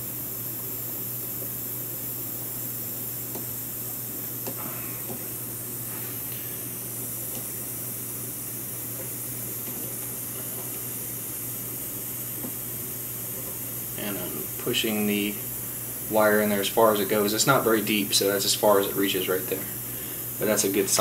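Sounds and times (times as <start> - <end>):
low constant hum: 0.0 - 21.0.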